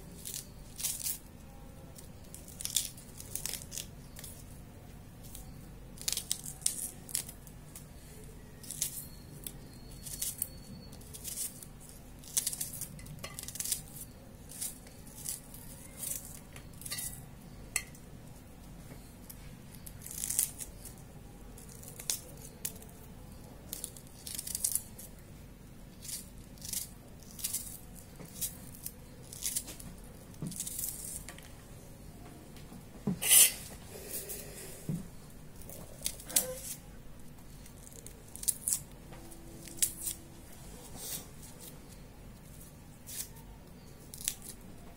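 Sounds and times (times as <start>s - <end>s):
papery skins crackling when peeled: 0.1s - 17.3s, 19.0s - 25.2s, 25.9s - 31.5s, 35.5s - 44.9s.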